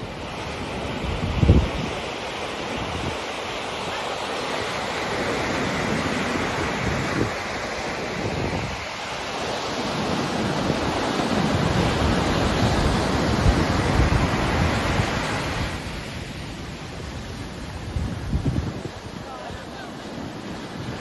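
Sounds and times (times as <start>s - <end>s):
ocean surf breaking on a beach: 0.0s - 21.0s
wind buffeting the microphone: 0.0s - 21.0s.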